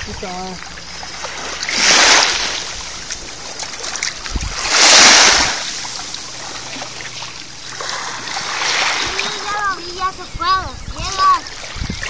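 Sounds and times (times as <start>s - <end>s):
small waves washing on rocks: 0.0s - 12.0s.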